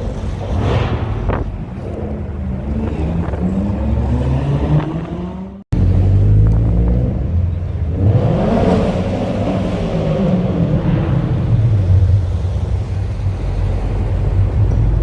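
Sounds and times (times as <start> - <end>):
car engines accelerating: 0.0 - 15.0.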